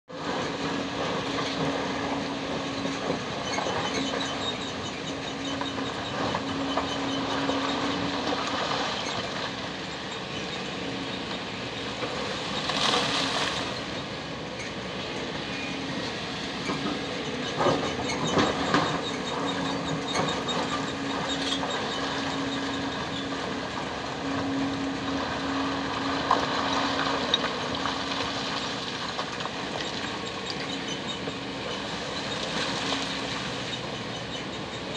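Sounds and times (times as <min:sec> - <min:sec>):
excavator engine drone: 0:00.0 - 0:34.9.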